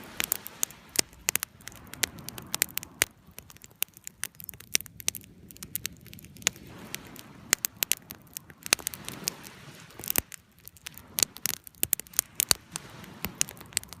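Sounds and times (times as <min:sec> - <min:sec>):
campfire crackling and popping: 0:00.0 - 0:14.0
waves washing: 0:00.0 - 0:14.0.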